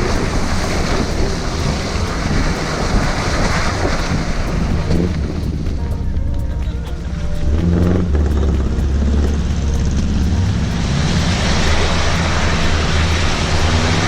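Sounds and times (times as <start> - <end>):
rushing noise: 0.0 - 14.0
vehicle engine running: 0.0 - 14.0.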